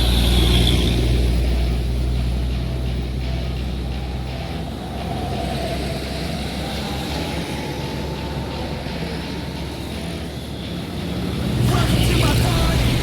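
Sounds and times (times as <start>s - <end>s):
truck engine rumble: 0.0s - 13.0s
tyre and road noise: 0.0s - 13.0s.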